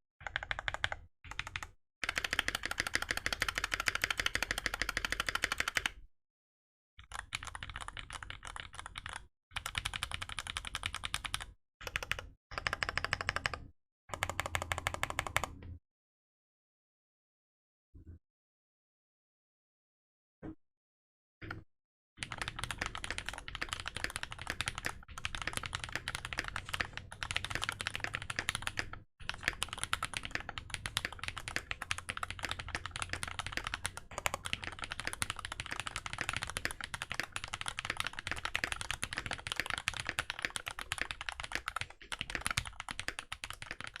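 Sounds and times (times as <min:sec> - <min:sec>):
mechanical keyboard typing: 0:00.2 - 0:06.0, 0:07.0 - 0:15.7, 0:22.2 - 0:44.0.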